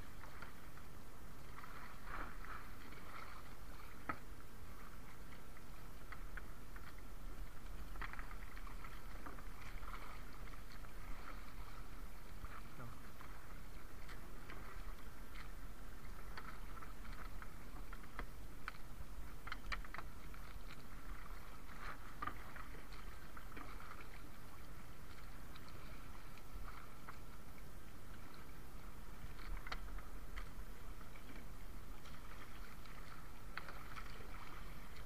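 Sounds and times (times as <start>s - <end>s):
water noise: 0.0s - 35.0s
wind: 0.0s - 35.0s.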